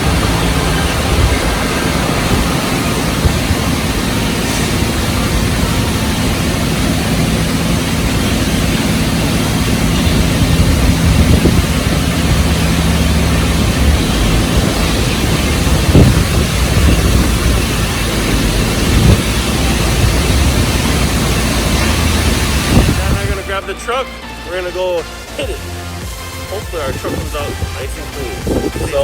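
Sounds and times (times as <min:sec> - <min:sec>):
car wash machinery rushing: 0:00.0 - 0:29.0
low motor hum: 0:00.0 - 0:29.0.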